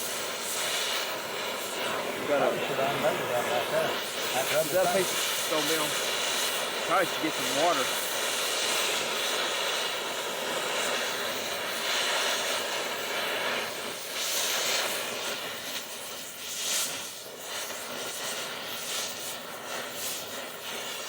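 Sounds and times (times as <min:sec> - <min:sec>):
cutting torch hissing: 0:00.0 - 0:21.0.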